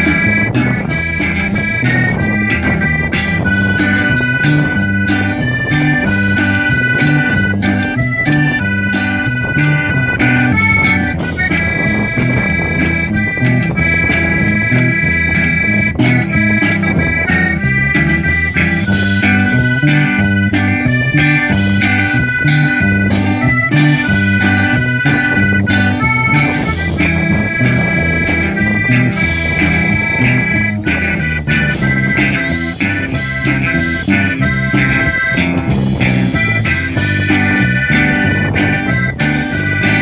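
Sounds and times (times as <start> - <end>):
accordion playing chords: 0.0 - 40.0
bass line: 0.0 - 40.0
drum kit: 0.0 - 40.0.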